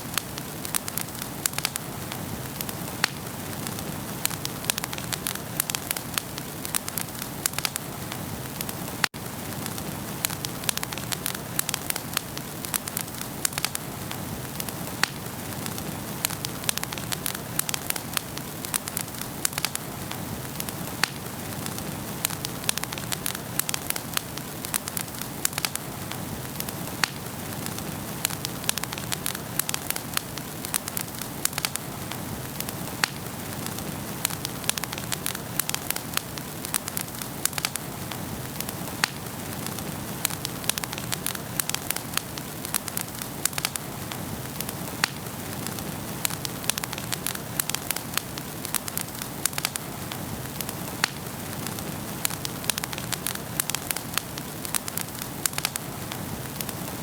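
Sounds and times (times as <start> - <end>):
fire crackling and popping: 0.0 - 57.0
flames rushing: 0.0 - 57.0.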